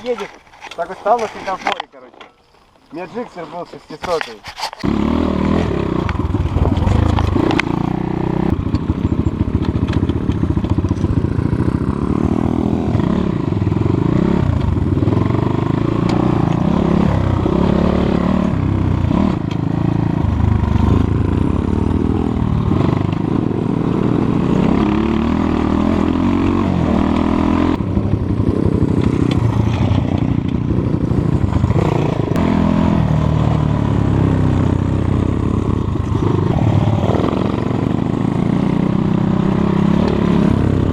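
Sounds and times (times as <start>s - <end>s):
motorcycle engine revving: 4.7s - 40.9s.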